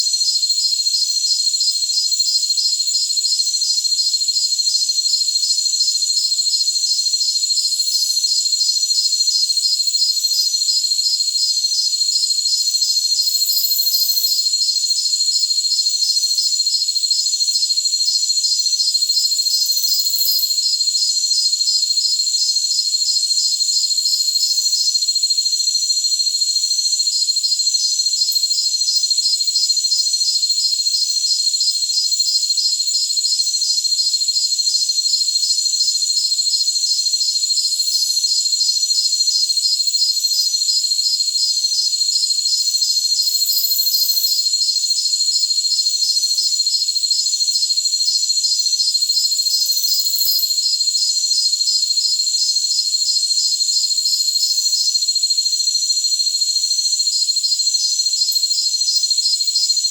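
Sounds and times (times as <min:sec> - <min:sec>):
crickets chorus: 0:00.0 - 0:59.9.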